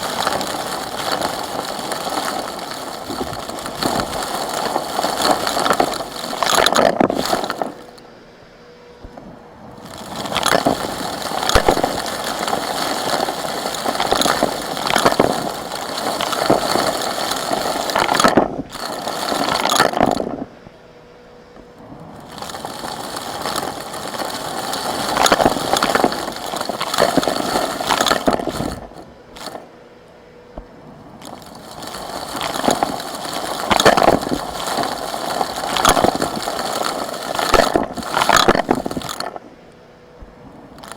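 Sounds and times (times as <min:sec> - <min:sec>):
small rocks crunching and scraping: 0:00.0 - 0:08.0, 0:09.1 - 0:20.6, 0:21.9 - 0:29.7, 0:31.1 - 0:39.4.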